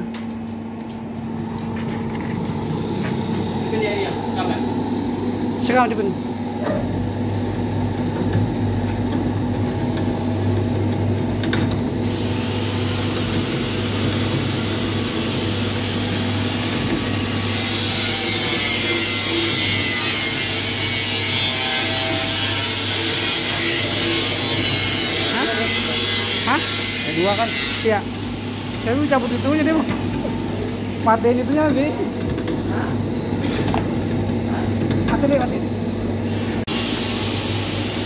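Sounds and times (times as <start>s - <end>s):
blower motor hum: 0.0s - 38.0s.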